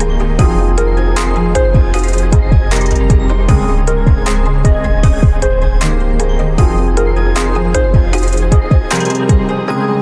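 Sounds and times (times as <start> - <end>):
electronic beat music: 0.0 - 9.8.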